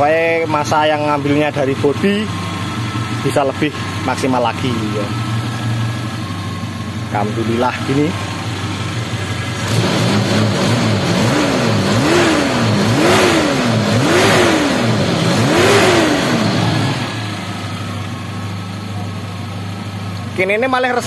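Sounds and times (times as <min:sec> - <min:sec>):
car engine revving: 0:00.0 - 0:20.0
car engine idling: 0:00.0 - 0:21.0.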